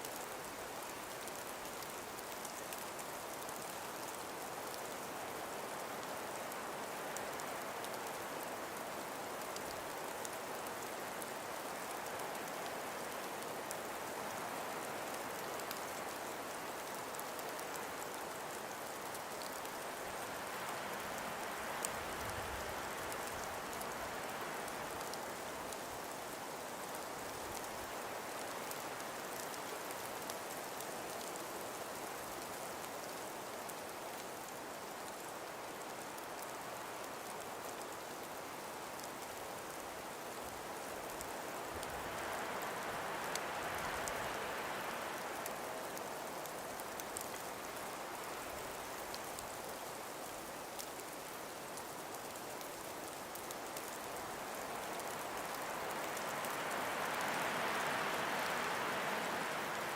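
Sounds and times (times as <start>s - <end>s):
faint ticks: 0.0s - 26.2s, 26.8s - 59.9s
gentle wind through trees: 0.0s - 59.9s.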